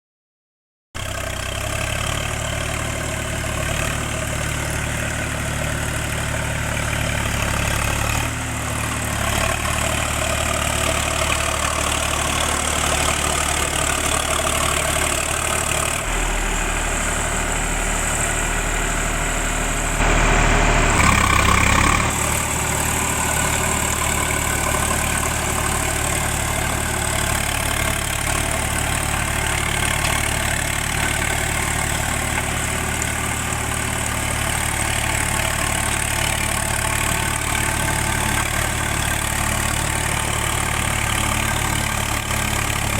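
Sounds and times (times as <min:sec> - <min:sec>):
tractor diesel engine running: 0:01.0 - 0:42.9.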